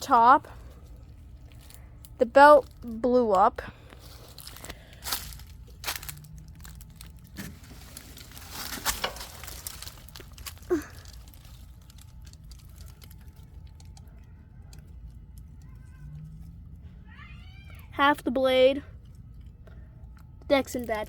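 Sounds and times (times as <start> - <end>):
rustling and crinkling: 0.1 - 17.9.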